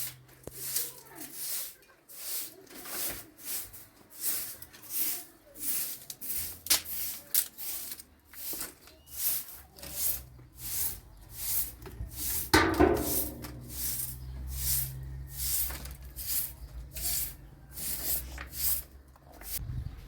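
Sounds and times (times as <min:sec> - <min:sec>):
rasping scraping strokes: 0:00.5 - 0:19.6.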